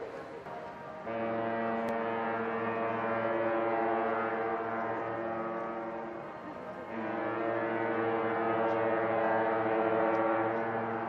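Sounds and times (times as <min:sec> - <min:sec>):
ship's horn blast: 0:00.5 - 0:11.0.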